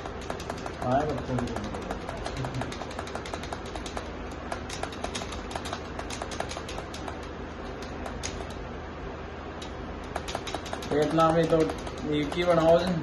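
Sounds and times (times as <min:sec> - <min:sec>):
keyboard typing clicks: 0:00.0 - 0:08.6, 0:09.6 - 0:13.0
low steady hum: 0:00.0 - 0:13.0.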